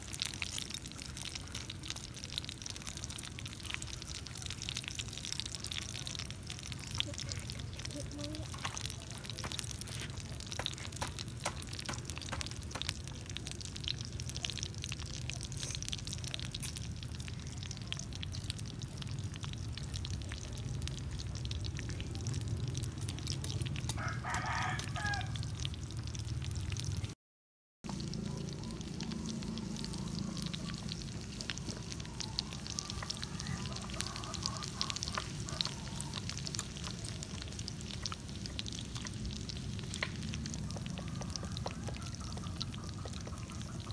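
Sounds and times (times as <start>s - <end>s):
food sizzling on hot rock: 0.0s - 27.2s, 27.9s - 43.9s.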